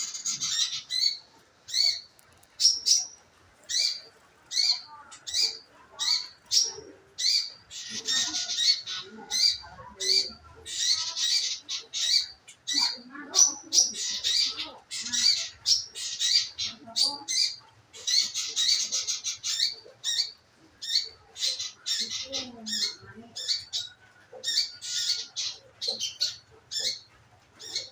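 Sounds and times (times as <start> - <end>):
bird chirping and trilling: 0.0 - 27.9.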